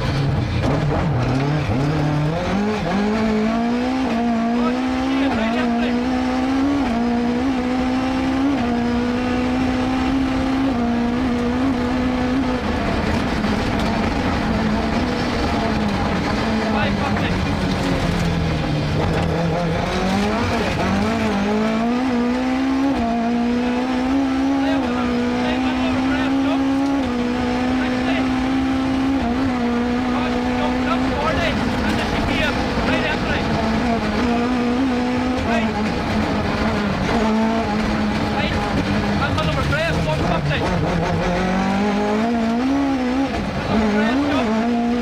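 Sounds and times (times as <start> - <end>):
rally car engine revving: 0.0 - 45.0.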